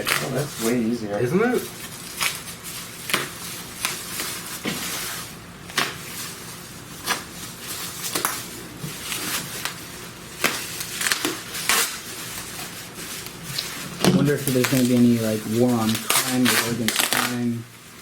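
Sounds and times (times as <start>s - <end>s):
packing tape tearing: 0.0s - 17.6s.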